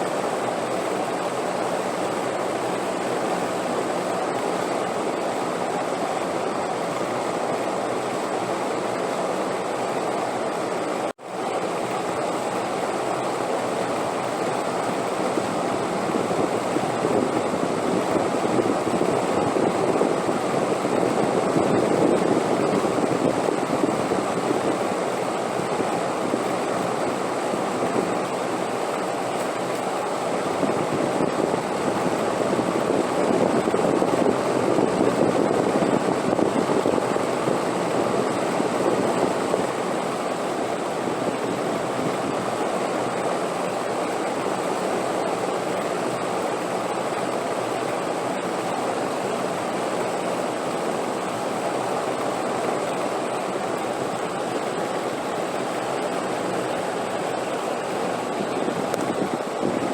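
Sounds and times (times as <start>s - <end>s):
rushing wind: 0.0s - 59.9s.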